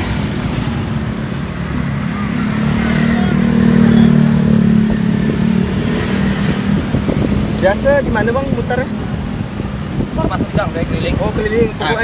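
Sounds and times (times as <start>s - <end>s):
street traffic rumble: 0.0s - 12.0s
vehicle engine passing close: 0.0s - 12.0s.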